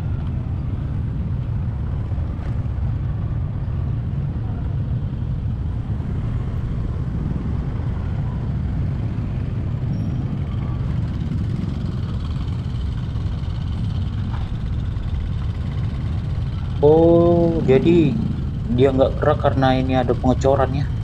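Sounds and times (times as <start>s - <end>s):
vehicle road rumble: 0.0s - 21.0s.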